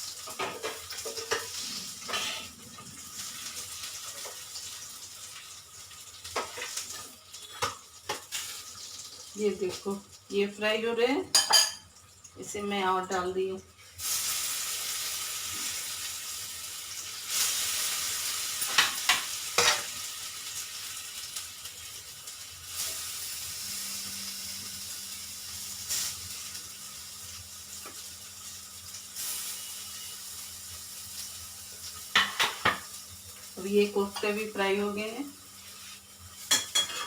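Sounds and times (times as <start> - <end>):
food deep-frying in oil: 0.0 - 37.0.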